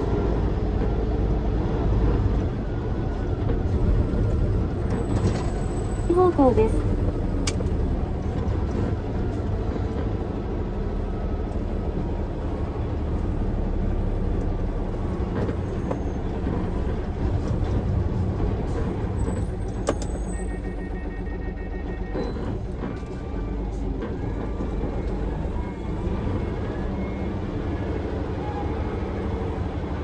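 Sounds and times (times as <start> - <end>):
diesel engine running: 0.0 - 30.0
road rumble: 0.0 - 30.0.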